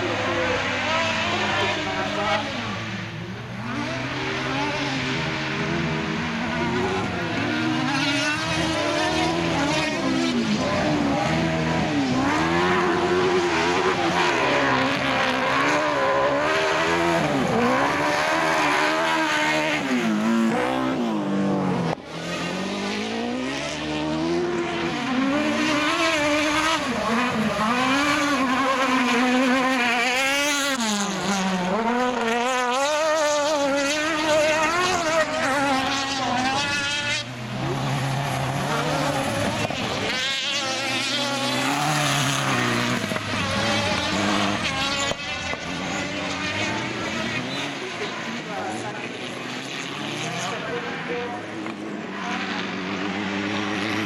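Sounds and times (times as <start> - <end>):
racing buggy engines revving: 0.0 - 54.0.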